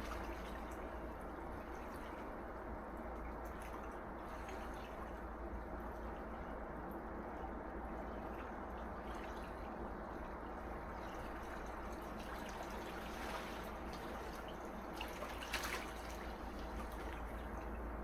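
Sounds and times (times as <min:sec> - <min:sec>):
small waves lapping on beach: 0:00.0 - 0:18.0.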